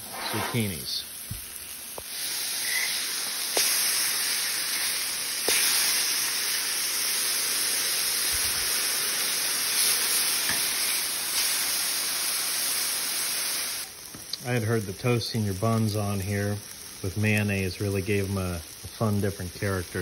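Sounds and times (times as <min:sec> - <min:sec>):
patties sizzling on a griddle: 0:00.1 - 0:20.0.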